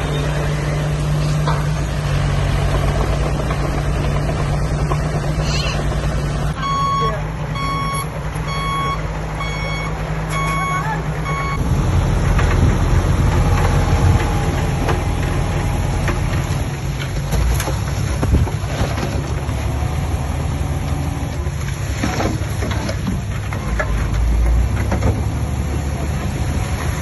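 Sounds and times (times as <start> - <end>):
diesel engine rumble: 0.0 - 27.0.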